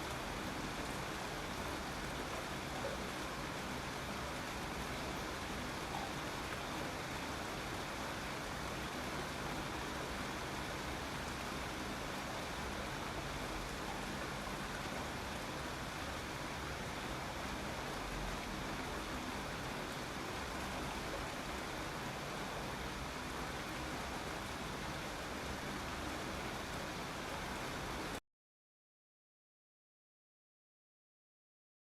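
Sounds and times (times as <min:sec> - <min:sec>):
steady rain hiss: 0:00.0 - 0:28.2.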